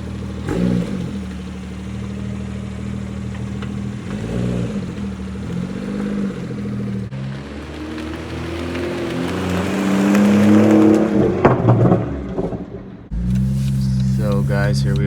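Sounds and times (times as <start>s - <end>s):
car engine idling: 0.0s - 10.5s, 12.2s - 15.0s
engine throttle blips: 0.0s - 15.0s.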